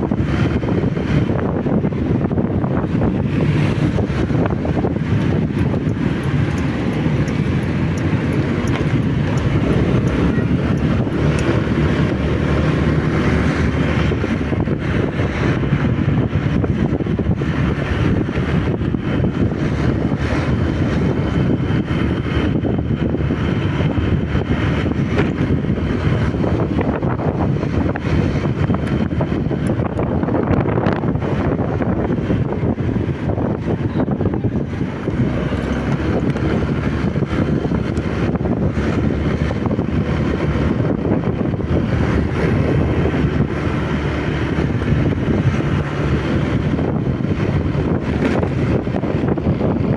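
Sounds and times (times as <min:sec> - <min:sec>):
motorcycle engine running: 0:00.0 - 0:49.9
wind rushing over microphone: 0:00.0 - 0:49.9.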